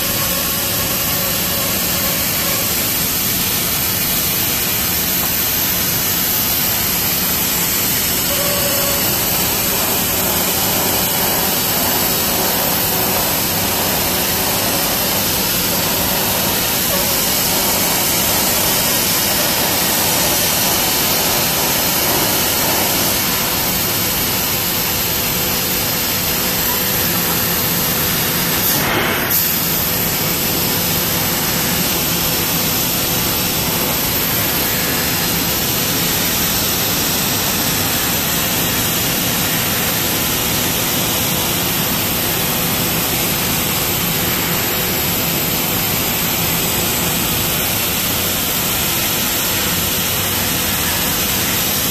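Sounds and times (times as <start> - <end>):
laser cutter hissing: 0.0 - 51.9.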